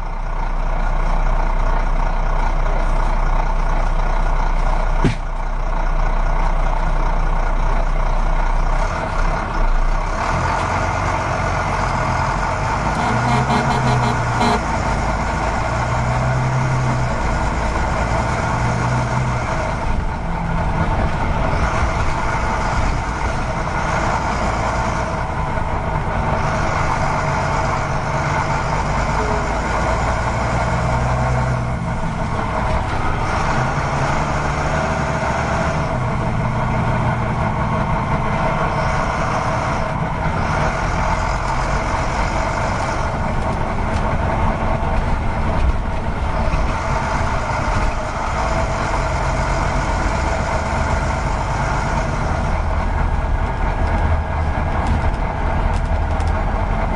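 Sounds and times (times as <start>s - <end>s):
heavy truck engine running: 0.0s - 56.9s.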